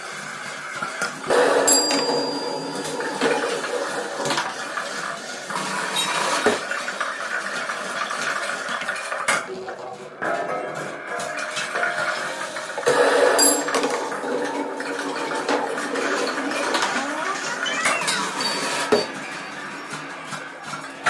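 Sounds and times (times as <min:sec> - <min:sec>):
marbles clattering through metal run: 0:01.3 - 0:19.2.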